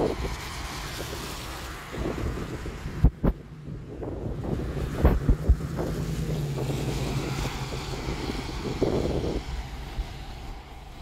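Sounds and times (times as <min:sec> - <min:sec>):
vehicle tyres hissing on wet road: 0:00.0 - 0:11.0
wind buffeting microphone: 0:00.0 - 0:11.0.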